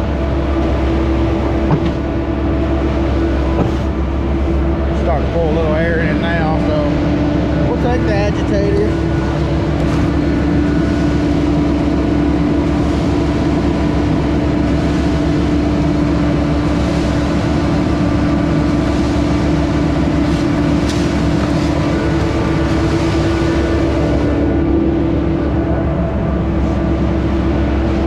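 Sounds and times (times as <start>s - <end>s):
concrete pump engine droning: 0.0s - 28.0s.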